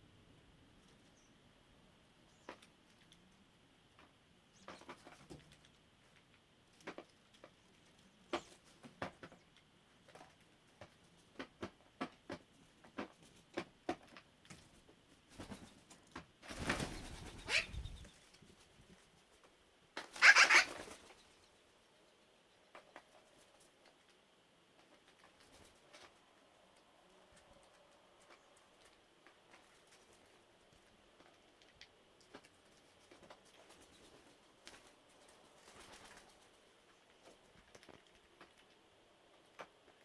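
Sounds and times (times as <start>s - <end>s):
birds pecking at dry food: 2.4s - 21.4s, 22.6s - 40.0s.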